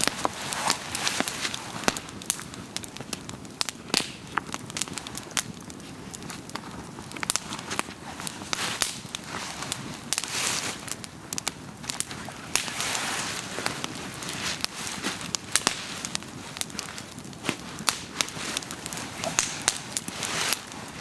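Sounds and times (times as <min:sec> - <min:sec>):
sharp pops of fire: 0:00.0 - 0:07.9, 0:08.5 - 0:21.0
campfire crackling: 0:00.0 - 0:21.0
fire hissing: 0:00.0 - 0:21.0.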